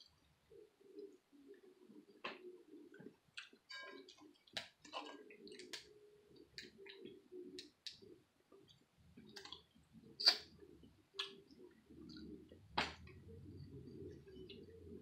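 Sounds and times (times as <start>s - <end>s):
soft eating sounds: 0.0s - 15.0s.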